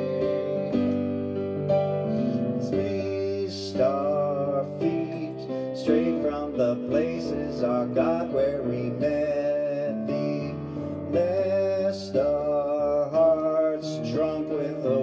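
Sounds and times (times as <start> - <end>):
man singing a hymn: 0.0 - 1.0, 2.3 - 15.0
electronic keyboard: 0.0 - 15.0.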